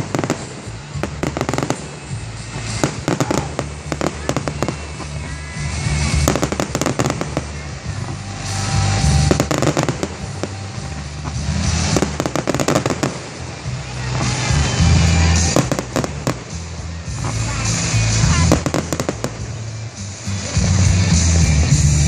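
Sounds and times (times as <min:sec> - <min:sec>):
fireworks booming: 0:00.0 - 0:22.0
fireworks crackling and popping: 0:00.0 - 0:22.0.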